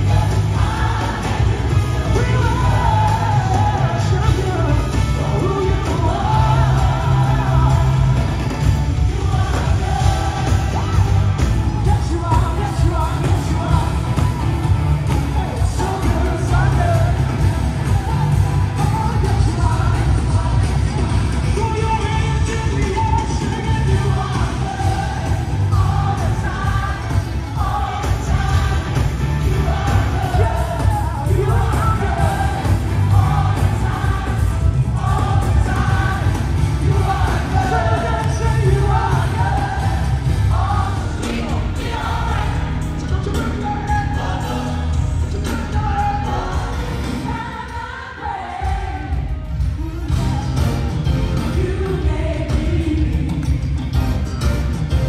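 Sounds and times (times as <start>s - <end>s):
crowd voices: 0.0s - 55.0s
gospel band and singers: 0.0s - 55.0s.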